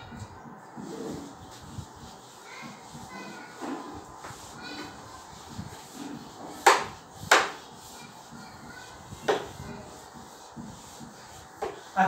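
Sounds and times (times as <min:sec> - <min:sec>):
duster wiping whiteboard: 0:00.0 - 0:12.0.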